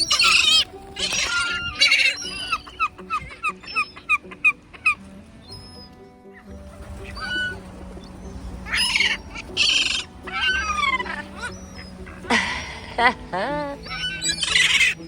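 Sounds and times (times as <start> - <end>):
seagulls crying: 0.0 - 15.0.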